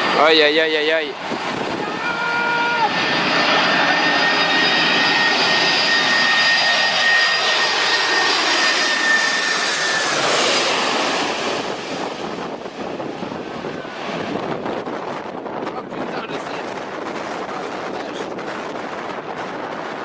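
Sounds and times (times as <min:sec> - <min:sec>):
high jet whine: 0:00.0 - 0:20.0
jet engines roaring: 0:00.0 - 0:20.0.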